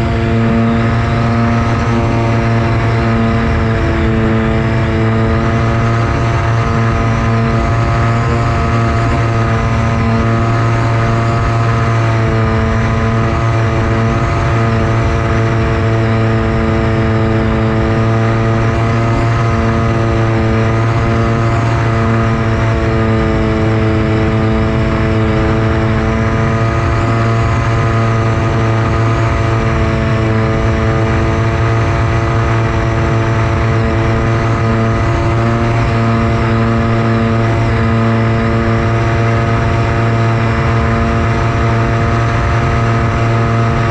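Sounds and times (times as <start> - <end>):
electric motor propeller hum: 0.0 - 43.9
rushing wind: 0.0 - 43.9.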